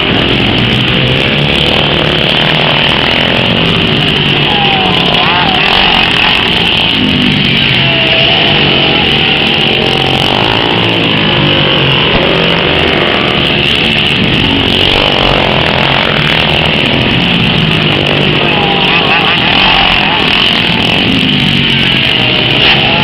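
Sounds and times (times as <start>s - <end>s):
racing engines droning: 0.0s - 23.0s.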